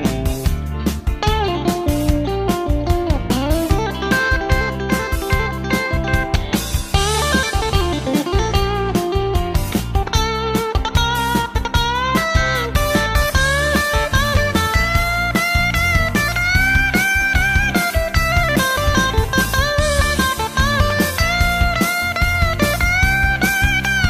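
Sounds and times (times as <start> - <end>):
blues-rock electric guitar music: 0.0 - 24.0.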